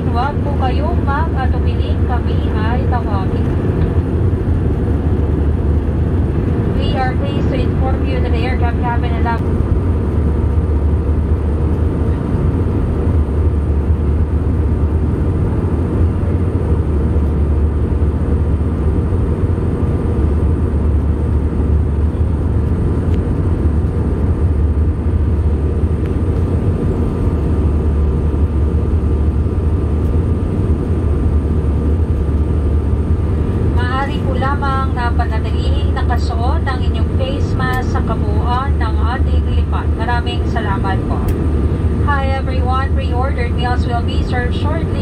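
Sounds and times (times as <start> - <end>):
faint steady whine: 0.0 - 45.0
jet engine and airflow roar: 0.0 - 45.0.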